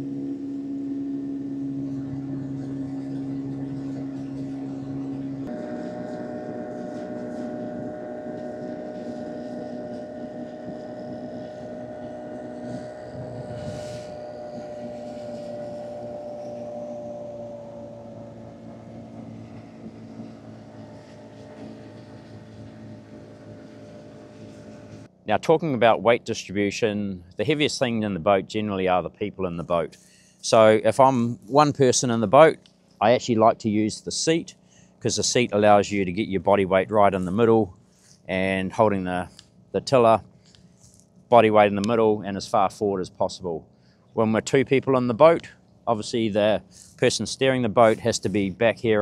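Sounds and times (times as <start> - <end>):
outboard motor running: 0.0 - 49.0.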